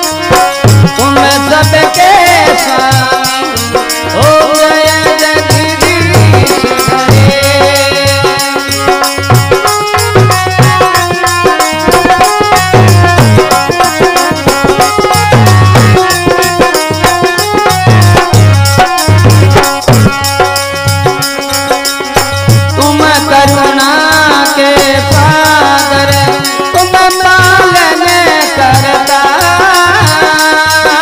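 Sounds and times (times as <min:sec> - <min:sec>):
fast drum and rattle beat: 0:00.0 - 0:31.0
instrumental melody: 0:00.0 - 0:31.0.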